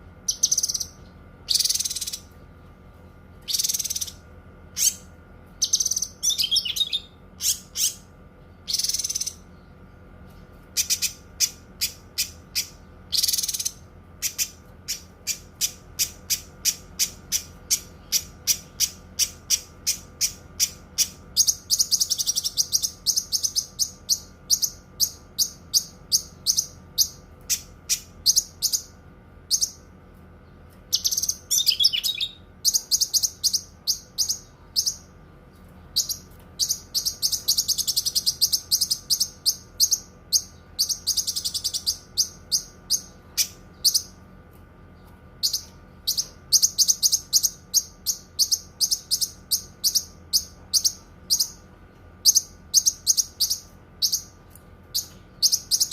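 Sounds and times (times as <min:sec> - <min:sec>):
faint steady hum: 0:00.0 - 0:55.9
bird singing high chirps: 0:00.2 - 0:02.4, 0:03.4 - 0:04.2, 0:04.8 - 0:09.7, 0:10.8 - 0:28.9, 0:30.9 - 0:35.2, 0:36.0 - 0:44.2, 0:45.0 - 0:51.6, 0:52.2 - 0:55.9.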